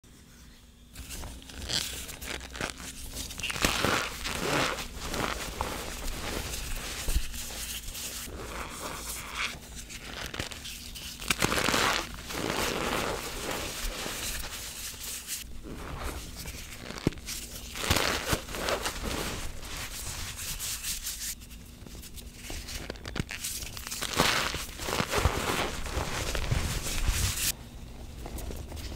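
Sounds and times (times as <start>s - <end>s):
hands crushing chalk powder: 1.0s - 21.4s, 22.0s - 27.6s.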